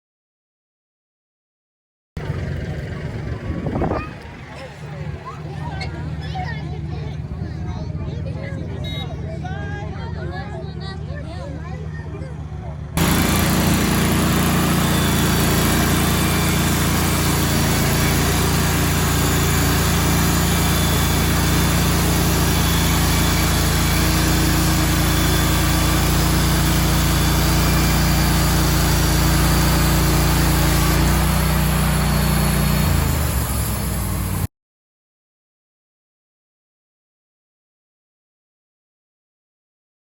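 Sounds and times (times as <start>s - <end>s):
engine running: 2.2s - 34.5s.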